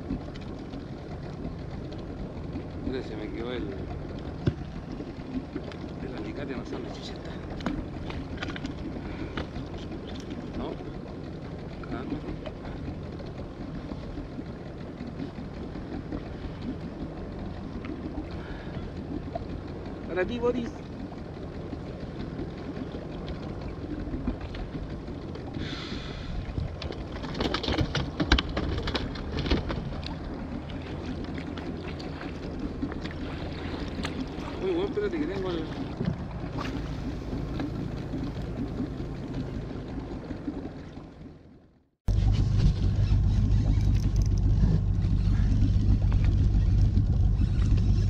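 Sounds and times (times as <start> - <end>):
knocks and splashes: 0.0 - 41.5, 42.1 - 48.0
low rumble of open sea: 0.0 - 48.0.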